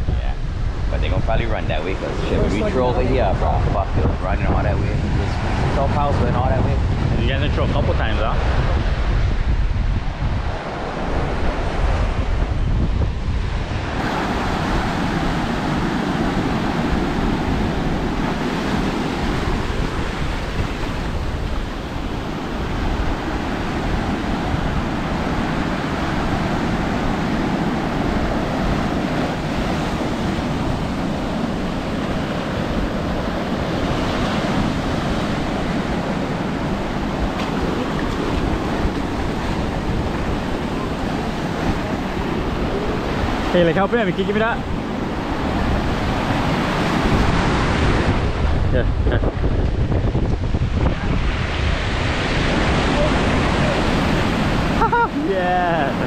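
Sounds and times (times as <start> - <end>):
ocean waves breaking: 0.0 - 56.0
wind rumbling on microphone: 0.0 - 56.0.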